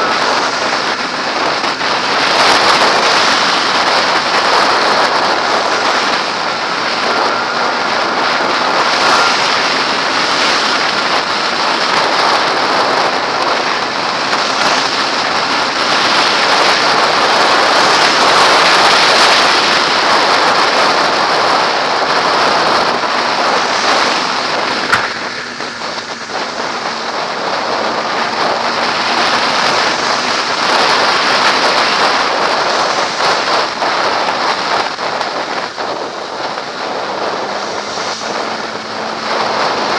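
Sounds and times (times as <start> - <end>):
wind rushing over helmet camera: 0.0 - 39.9.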